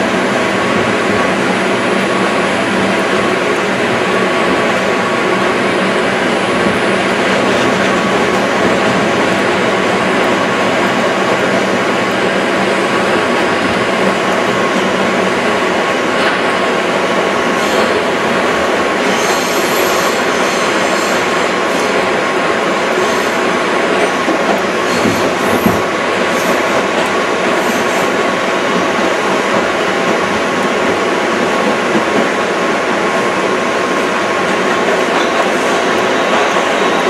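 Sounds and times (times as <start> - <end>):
subway train wheels rumbling: 0.0 - 37.0.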